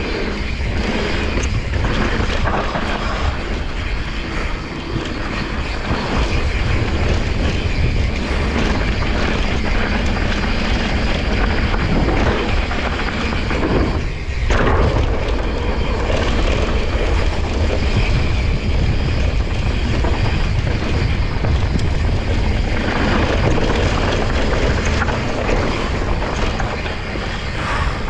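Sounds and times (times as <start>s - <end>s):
bike tyres rolling on loose dirt: 0.0s - 28.0s
wind on microphone: 0.0s - 28.0s.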